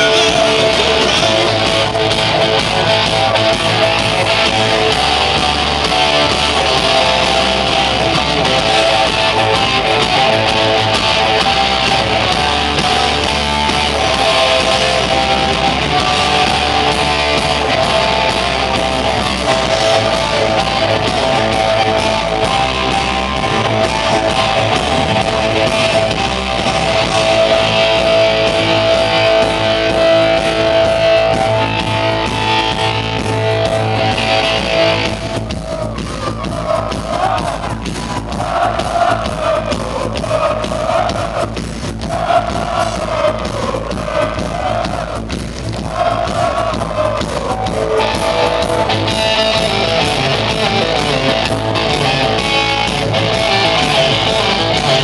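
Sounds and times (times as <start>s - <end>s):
bass guitar: 0.0s - 55.0s
drums: 0.0s - 55.0s
electric guitars: 0.0s - 55.0s.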